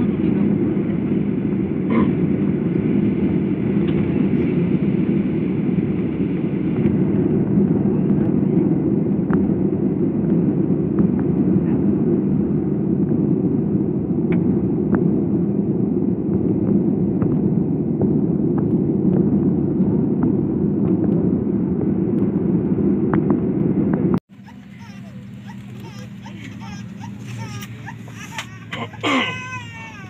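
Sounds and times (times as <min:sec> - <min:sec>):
jet engines idling rumble: 0:00.0 - 0:30.0.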